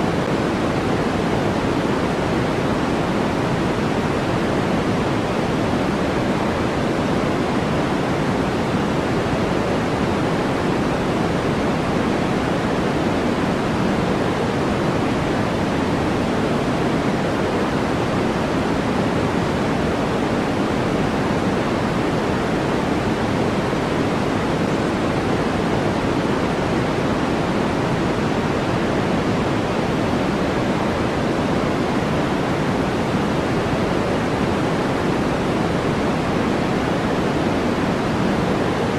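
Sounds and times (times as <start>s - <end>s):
steady white noise hiss: 0.0s - 38.9s.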